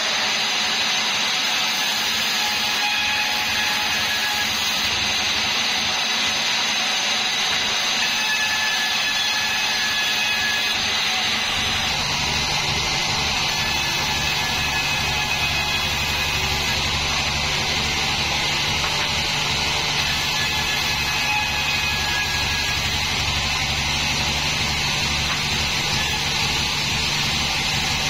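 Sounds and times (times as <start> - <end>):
bandsaw mill sawing log: 0.0 - 28.0.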